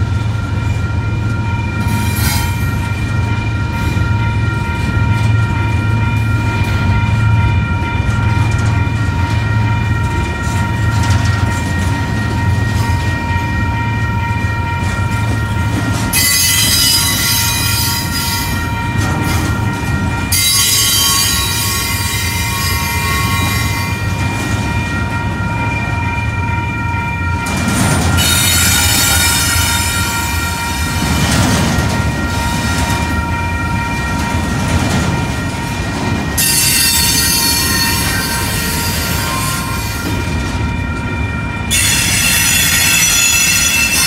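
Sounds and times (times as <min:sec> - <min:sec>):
crossing bell ringing: 0:00.0 - 0:44.0
train wheels rumbling on rails: 0:00.0 - 0:44.0.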